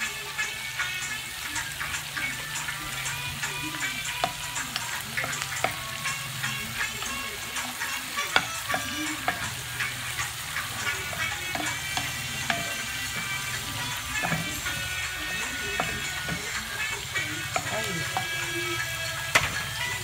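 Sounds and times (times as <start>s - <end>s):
vegetables sizzling in a pan: 0.0s - 20.0s
wooden spatula scraping a pan: 3.8s - 20.0s.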